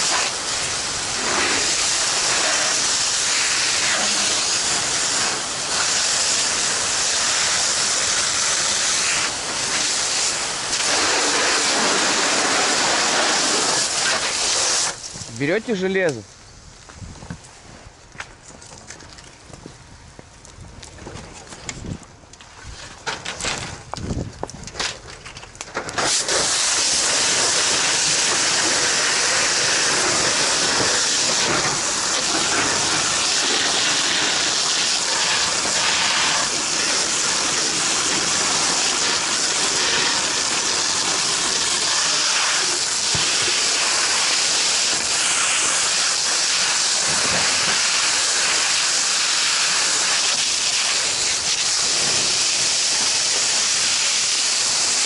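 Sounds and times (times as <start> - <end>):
fire hose spraying water: 0.0 - 16.2, 25.8 - 55.0.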